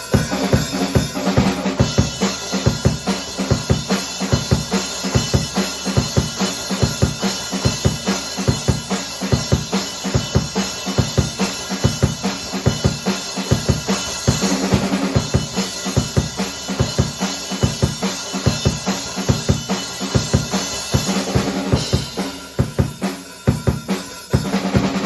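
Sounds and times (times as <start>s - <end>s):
drum kit played solo: 0.0s - 25.0s.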